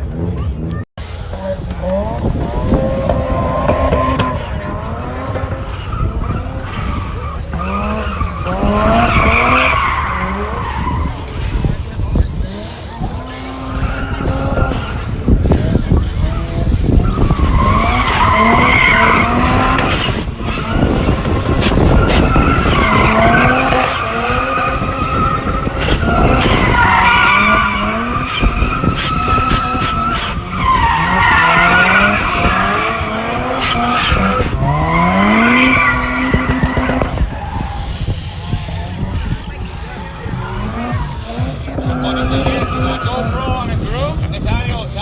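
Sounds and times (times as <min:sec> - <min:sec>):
car engines revving: 0:00.0 - 0:45.0
tires screeching: 0:00.0 - 0:45.0.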